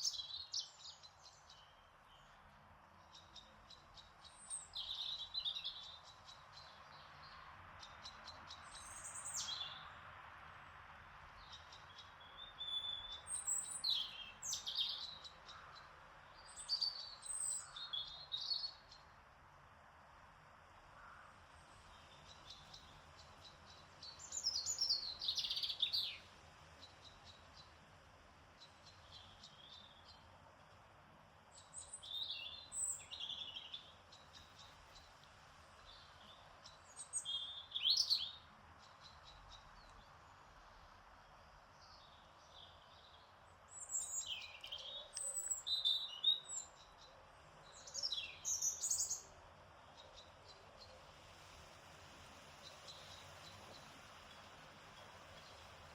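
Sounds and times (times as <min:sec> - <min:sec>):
soft steady hiss: 0:00.0 - 0:55.9
songbirds chirping: 0:00.0 - 0:55.9.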